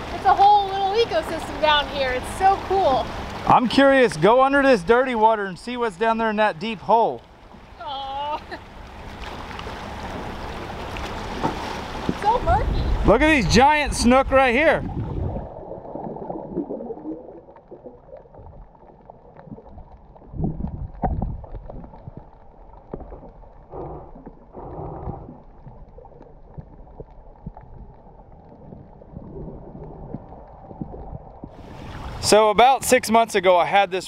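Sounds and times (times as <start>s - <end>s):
underwater swishing and gurgling: 0.0s - 6.1s, 8.6s - 32.4s
bubbly gushes: 0.0s - 32.6s.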